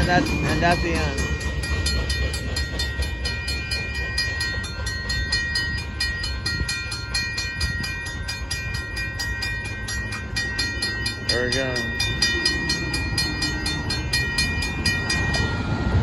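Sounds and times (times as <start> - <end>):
crossing bell ringing: 0.0 - 16.0.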